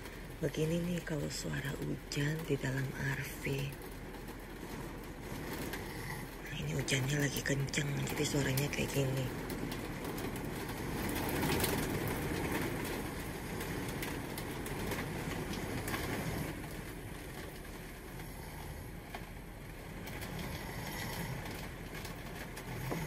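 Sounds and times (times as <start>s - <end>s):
heavy rain on a vehicle roof: 0.0s - 23.0s.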